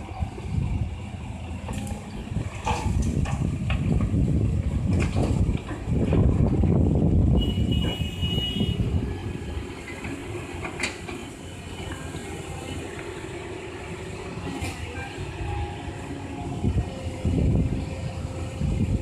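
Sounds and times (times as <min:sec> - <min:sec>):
excavator engine rumbling: 0:00.0 - 0:19.0.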